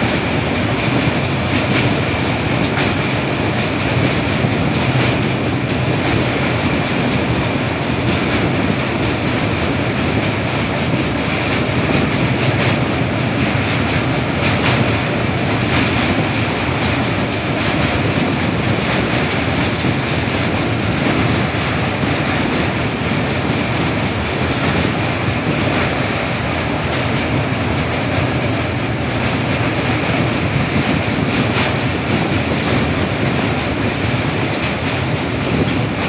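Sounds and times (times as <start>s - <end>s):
train rumbling over bridge: 0.0s - 36.0s.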